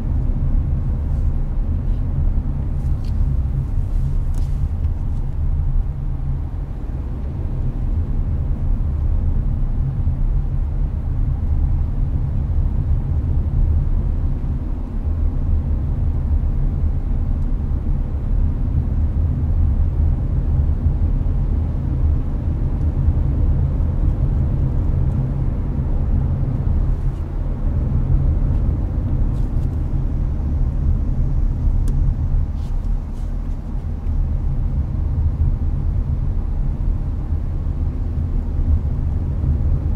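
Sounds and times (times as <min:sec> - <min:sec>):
air conditioner blowing: 0:00.0 - 0:39.9
road and engine rumble: 0:00.0 - 0:39.9.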